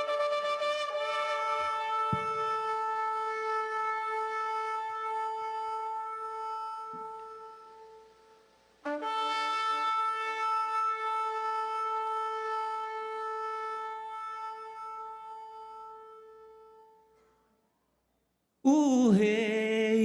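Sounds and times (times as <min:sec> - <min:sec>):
trumpet long held notes: 0:00.0 - 0:17.2.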